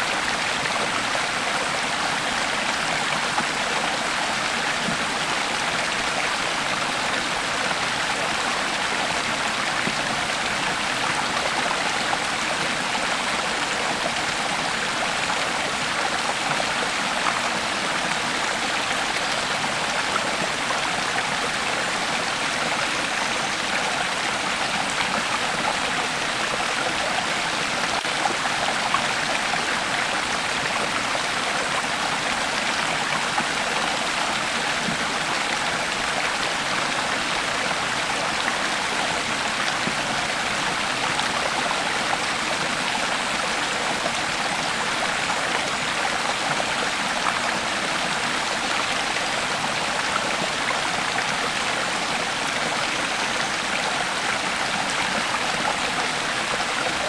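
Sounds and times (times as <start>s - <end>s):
creek flowing over stones: 0.0s - 57.0s.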